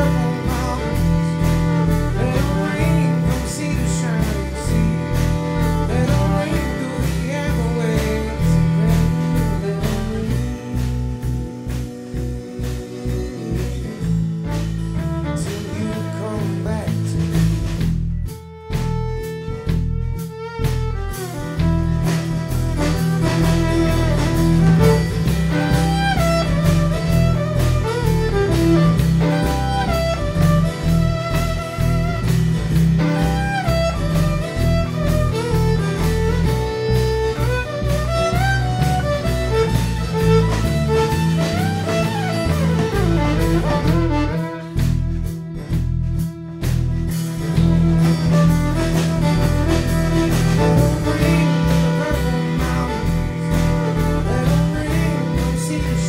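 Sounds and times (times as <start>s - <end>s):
fiddle melody: 0.0s - 56.0s
guitar: 0.0s - 56.0s
steady bass: 0.0s - 56.0s.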